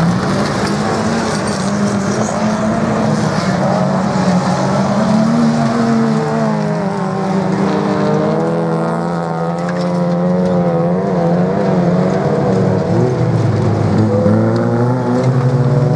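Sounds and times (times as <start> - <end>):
race car engines at high revs: 0.0 - 15.9.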